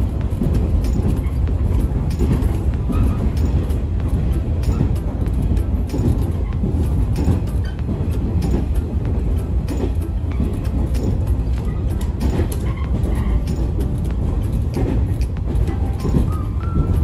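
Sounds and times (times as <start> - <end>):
train rumble: 0.0 - 17.0
wheels clicking over track: 0.0 - 17.0.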